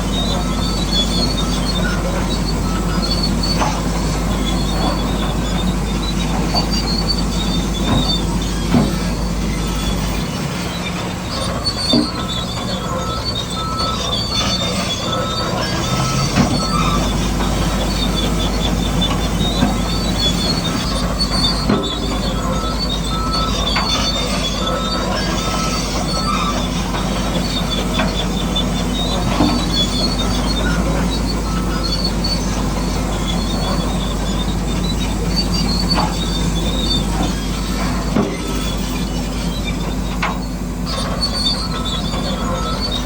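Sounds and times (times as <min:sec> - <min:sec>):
bulldozer motor drone: 0:00.0 - 0:43.0
tracks squealing and clanking: 0:00.0 - 0:43.0.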